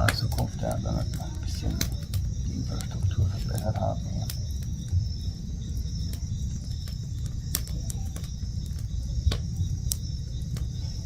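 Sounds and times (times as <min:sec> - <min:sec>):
campfire crackling and popping: 0:00.0 - 0:11.0
night insects chirping: 0:00.0 - 0:11.0.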